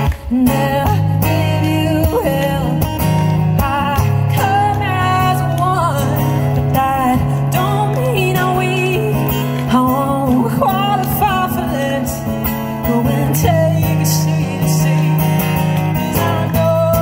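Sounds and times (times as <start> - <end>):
woman singing: 0.0 - 15.3, 16.1 - 17.0
acoustic guitar strumming: 0.0 - 17.0.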